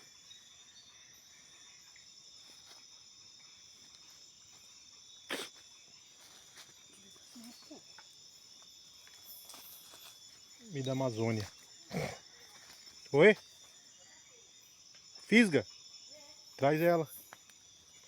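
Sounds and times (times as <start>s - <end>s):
chorus of insects: 0.0s - 18.0s.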